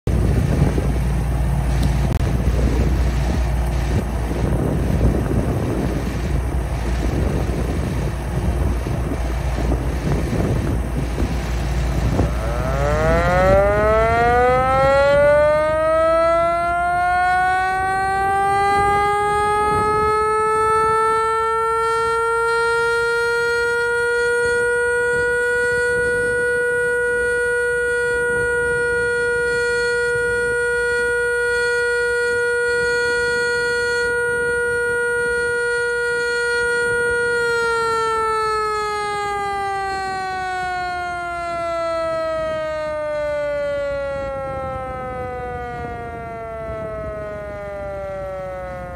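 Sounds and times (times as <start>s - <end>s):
siren winding up to a wail: 1.7s - 48.9s.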